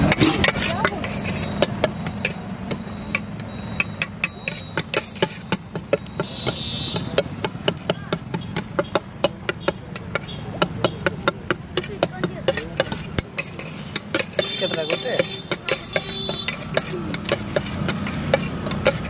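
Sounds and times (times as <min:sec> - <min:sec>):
spoon clinking against steel pot: 0:00.0 - 0:19.0.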